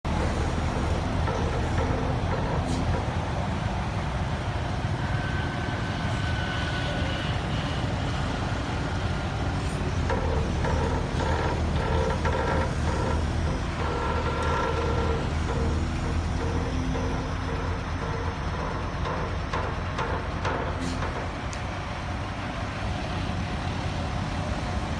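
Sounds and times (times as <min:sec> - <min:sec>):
heavy diesel machinery running: 0:00.0 - 0:24.9.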